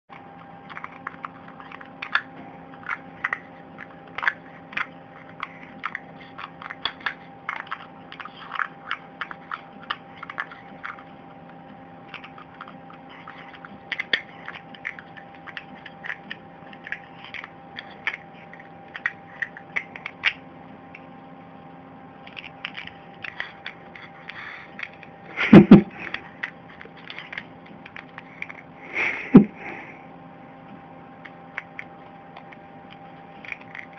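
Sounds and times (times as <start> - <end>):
pet crunching food: 0.1 - 21.2, 22.1 - 29.9, 30.8 - 33.9
background hum: 0.1 - 33.9.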